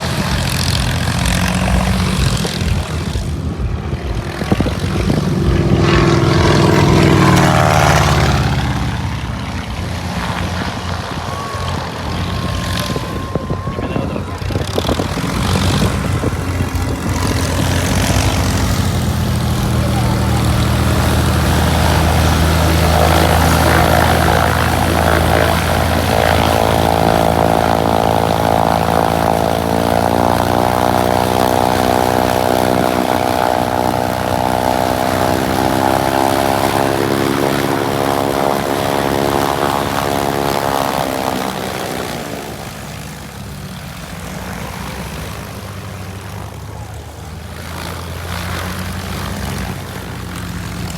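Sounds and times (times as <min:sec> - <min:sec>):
propeller aircraft engine droning: 0:00.0 - 0:50.9.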